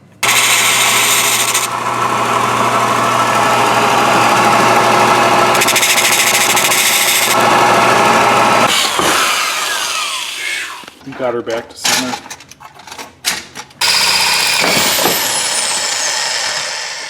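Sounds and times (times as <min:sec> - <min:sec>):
electric drill cutting into panel: 0:00.2 - 0:11.0, 0:13.8 - 0:17.0.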